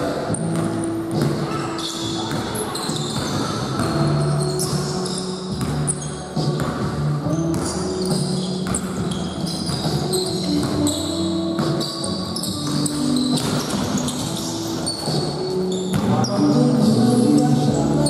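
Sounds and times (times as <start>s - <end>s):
shoes squeaking on court floor: 0.0s - 18.0s
ball bouncing: 0.3s - 16.4s.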